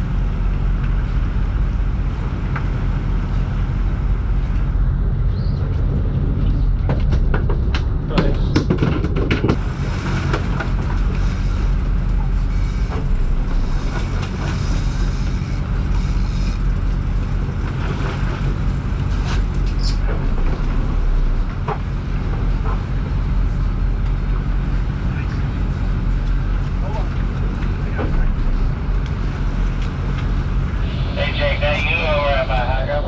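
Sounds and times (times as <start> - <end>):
boat engines droning: 0.0 - 8.6, 9.6 - 33.0.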